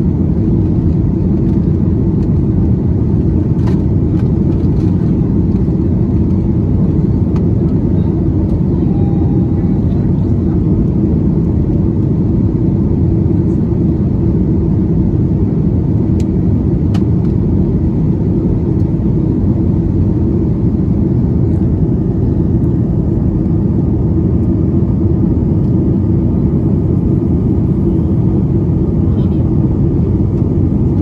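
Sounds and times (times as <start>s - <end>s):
airplane cabin roar: 0.0s - 31.0s.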